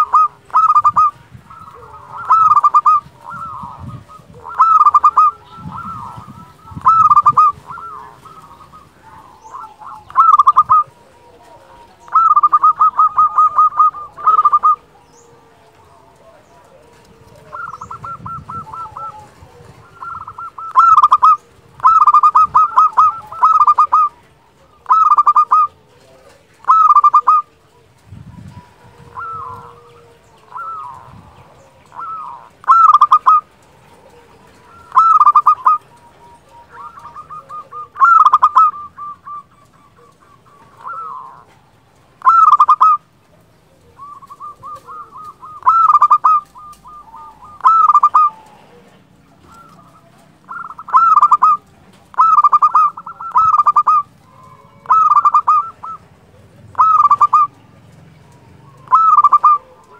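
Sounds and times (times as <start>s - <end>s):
dove cooing song: 0.0s - 59.9s.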